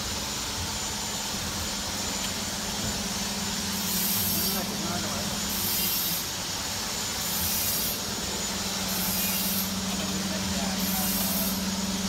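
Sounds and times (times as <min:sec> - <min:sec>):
wire-bending machine humming: 0:00.0 - 0:12.0.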